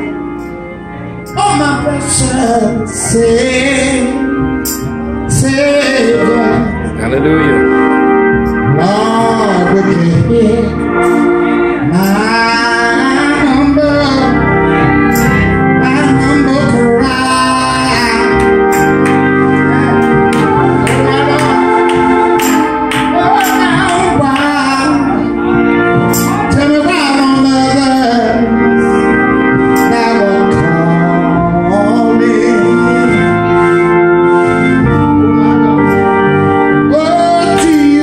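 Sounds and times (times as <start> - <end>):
electric organ chords: 0.0 - 38.0
man singing gospel: 1.3 - 4.6, 5.2 - 8.0, 8.6 - 34.1, 36.7 - 38.0.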